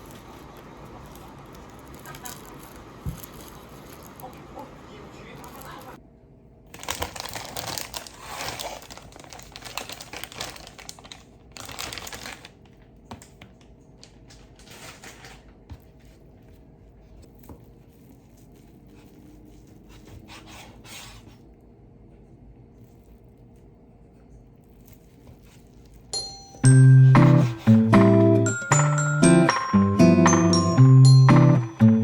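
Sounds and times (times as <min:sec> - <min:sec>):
crinkling and rustling handling: 0:00.0 - 0:06.0, 0:06.7 - 0:28.6.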